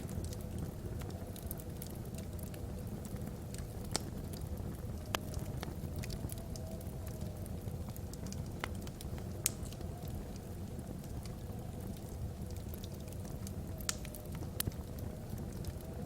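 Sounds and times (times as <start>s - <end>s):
wood fire crackling: 0.0s - 16.0s
faint wind whistle: 0.1s - 16.0s.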